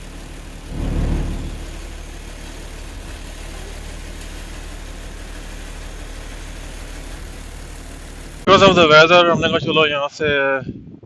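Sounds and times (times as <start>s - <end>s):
road noise: 0.0s - 9.2s
truck engine hum: 0.0s - 9.5s.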